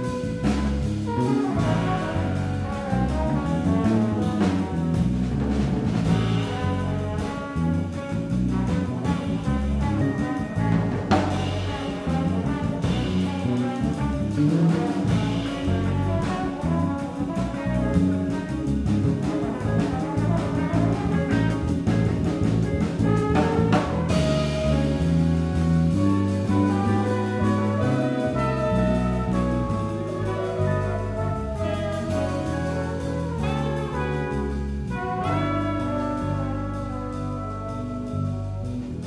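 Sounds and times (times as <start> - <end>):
drum kit: 0.0 - 39.0
electric bass: 0.0 - 39.0
horn section: 0.0 - 39.0
trombone: 0.0 - 39.0.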